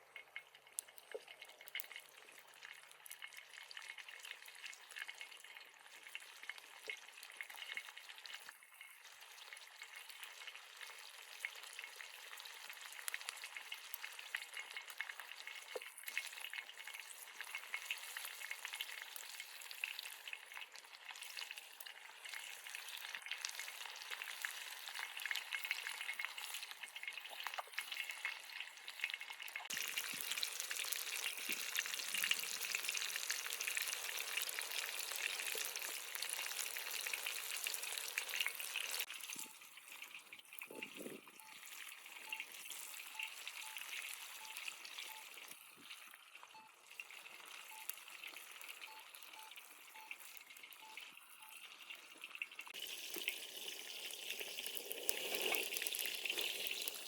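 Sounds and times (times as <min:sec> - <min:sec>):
food sizzling and crackling: 0:00.0 - 0:57.0.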